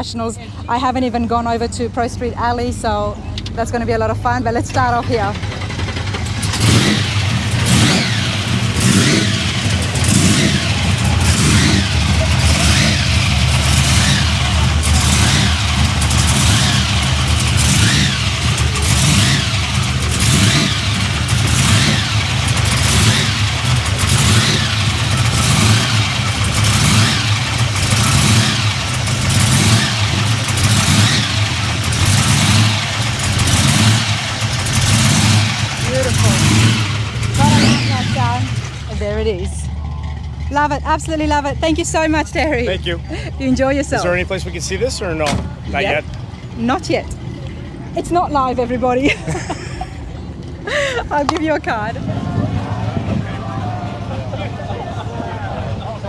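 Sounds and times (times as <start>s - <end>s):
car engine running loud: 0.0s - 56.0s.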